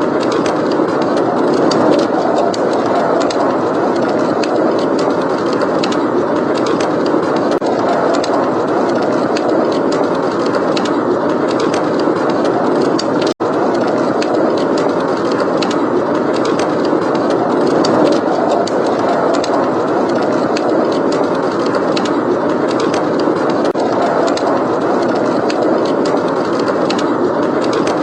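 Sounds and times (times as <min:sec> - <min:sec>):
blizzard wind blowing: 0:00.0 - 0:28.0
fireplace crackling: 0:00.0 - 0:28.0.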